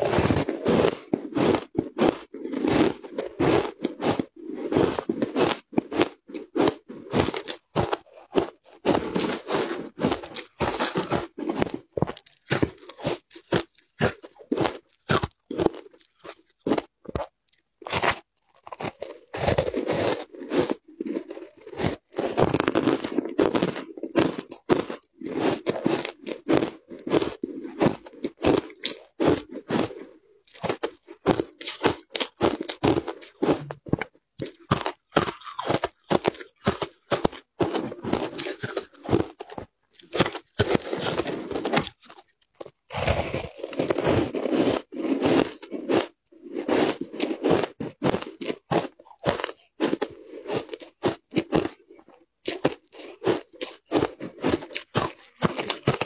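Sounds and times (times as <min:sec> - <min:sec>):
crunching frozen ice: 0:00.0 - 0:56.0.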